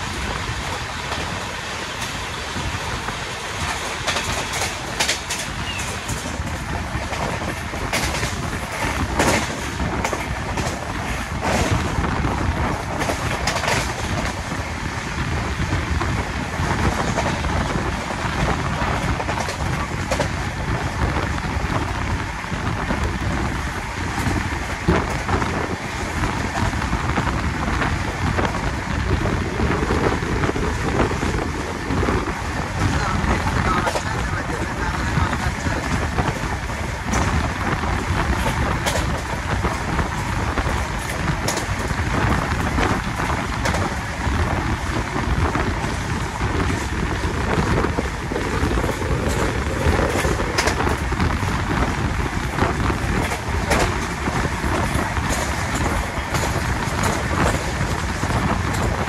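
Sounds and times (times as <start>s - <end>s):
freight train passing: 0.0s - 59.0s
train wheels rumbling on track: 0.0s - 59.0s
wind rushing over microphone: 0.0s - 59.0s.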